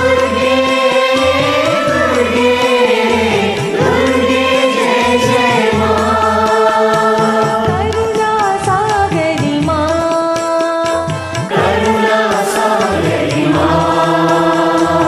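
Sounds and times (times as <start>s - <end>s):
devotional song with instruments: 0.0s - 15.0s.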